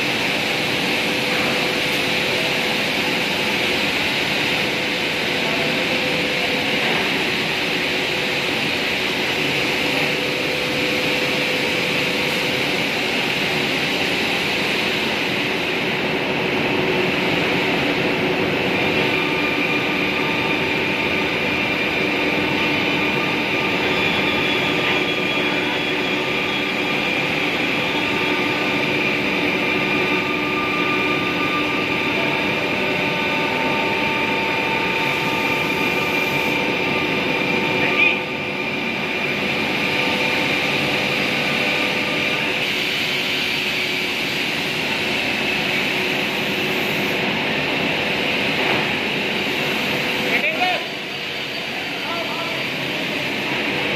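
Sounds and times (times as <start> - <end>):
woodworking machinery running: 0.0 - 53.9.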